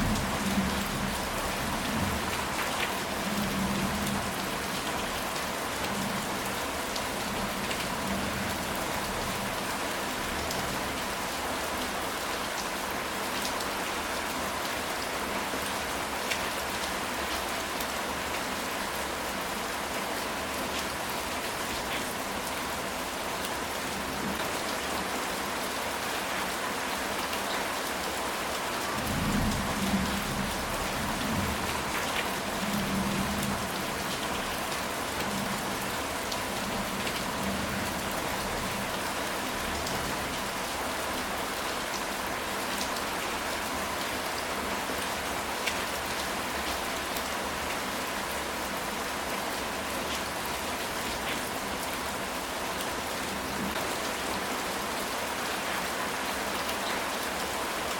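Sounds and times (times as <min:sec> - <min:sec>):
rain on a tile roof: 0:00.0 - 0:57.9.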